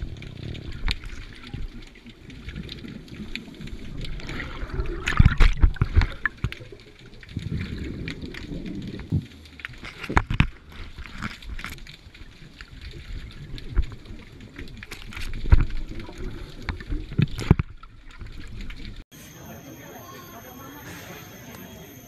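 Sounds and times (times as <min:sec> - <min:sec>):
diver bubbles gurgling underwater: 0:00.0 - 0:19.0.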